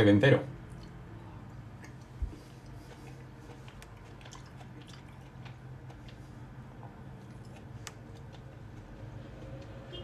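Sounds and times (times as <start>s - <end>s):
soft chewing: 0.6s - 9.9s.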